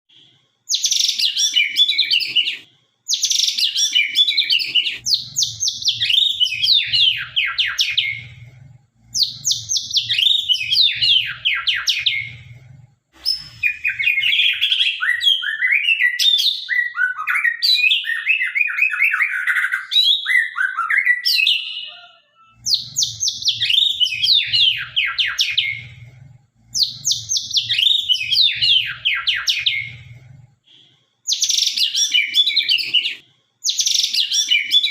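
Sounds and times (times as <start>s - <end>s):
bird singing whistles and trills: 0.7s - 8.4s, 9.2s - 12.4s, 13.2s - 26.0s, 26.8s - 30.0s, 31.3s - 34.9s.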